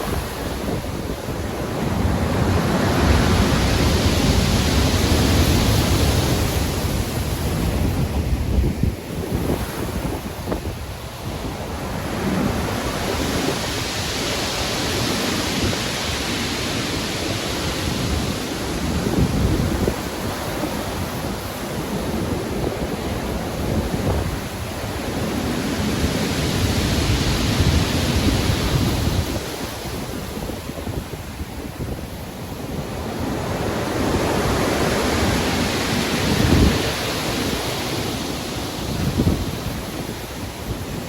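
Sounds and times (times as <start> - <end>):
stormy sea waves breaking: 0.0 - 41.0.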